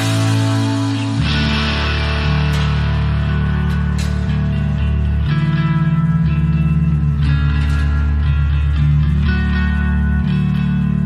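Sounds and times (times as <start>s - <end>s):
instrumental music with sustained chords: 0.0s - 11.0s.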